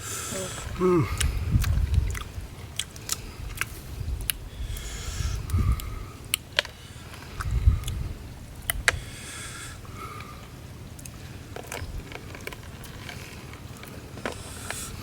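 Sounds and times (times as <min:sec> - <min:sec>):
man chewing crunchy shell: 0:00.0 - 0:15.0.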